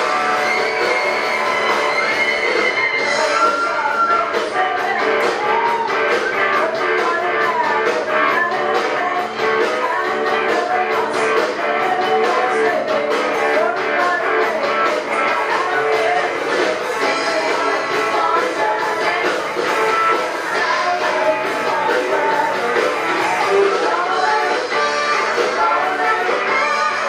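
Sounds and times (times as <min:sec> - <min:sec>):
rock band playing: 0:00.0 - 0:27.0
woman singing: 0:03.0 - 0:27.0.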